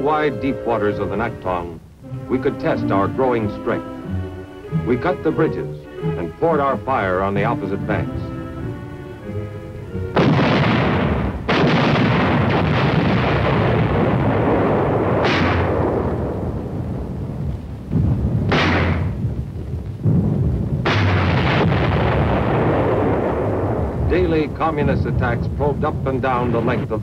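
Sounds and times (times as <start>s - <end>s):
artillery blasts with rolling rumble: 0.0s - 27.0s.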